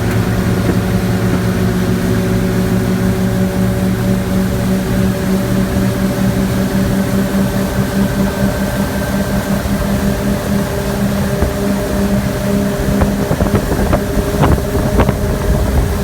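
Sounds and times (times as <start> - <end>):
constant rushing noise: 0.0 - 16.0
motorboat engine humming: 0.0 - 16.0.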